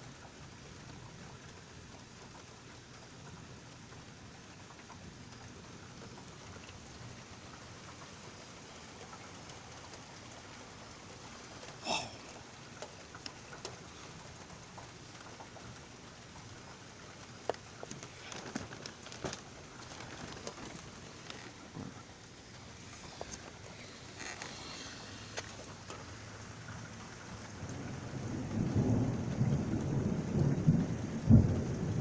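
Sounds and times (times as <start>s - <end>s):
hard rain falling: 0.0s - 32.0s.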